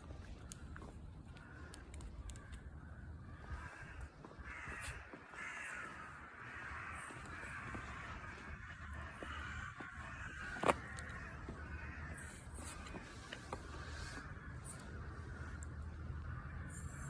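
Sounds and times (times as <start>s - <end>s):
crows cawing: 0.4s - 17.0s.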